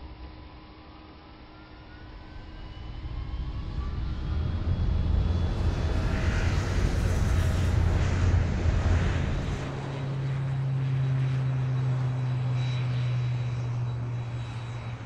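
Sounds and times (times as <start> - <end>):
jet engines rumbling: 2.0 - 15.0.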